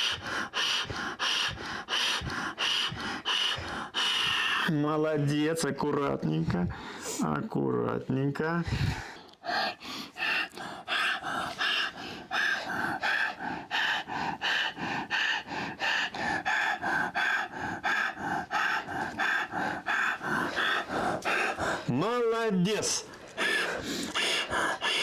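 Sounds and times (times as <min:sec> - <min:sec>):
person panting hard: 0:00.0 - 0:05.5, 0:06.2 - 0:07.4, 0:08.5 - 0:25.0.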